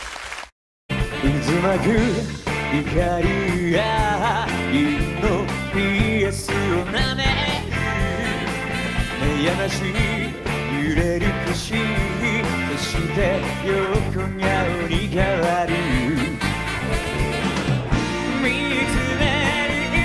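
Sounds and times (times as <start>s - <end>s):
electric bass: 0.9s - 20.0s
steady drum beat: 0.9s - 20.0s
man singing lead: 1.1s - 16.6s, 18.1s - 20.0s.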